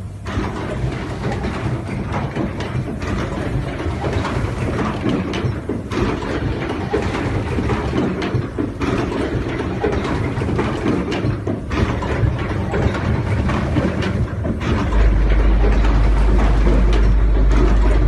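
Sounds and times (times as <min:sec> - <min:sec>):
crimping machine clatter: 0:00.2 - 0:18.0.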